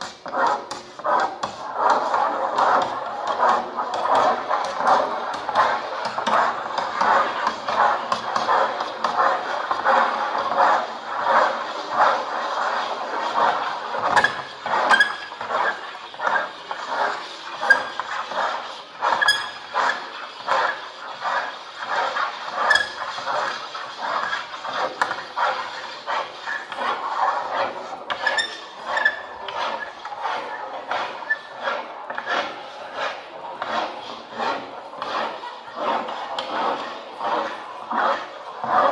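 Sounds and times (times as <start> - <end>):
pens scratching on paper: 0.0 - 38.9.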